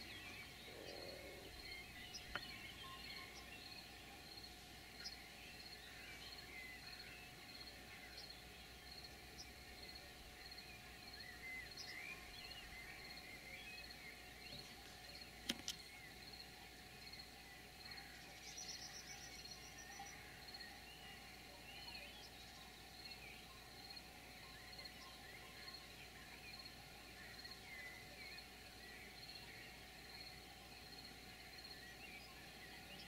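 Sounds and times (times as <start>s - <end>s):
birds calling and singing: 0.0s - 33.0s.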